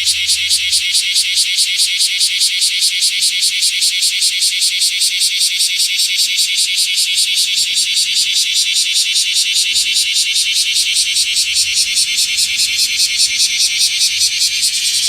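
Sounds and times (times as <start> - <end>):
cicadas buzzing: 0.0 - 15.0.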